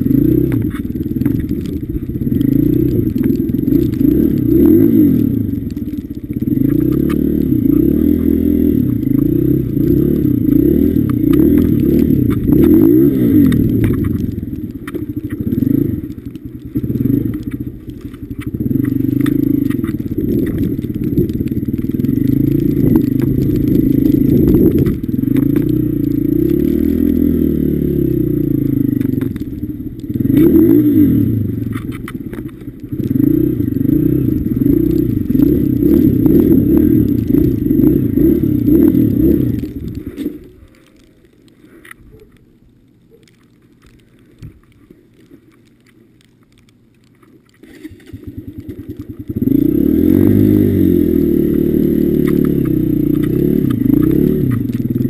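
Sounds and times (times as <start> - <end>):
dirt bike engine revving: 0.0 - 29.4, 30.0 - 40.3, 48.2 - 55.0.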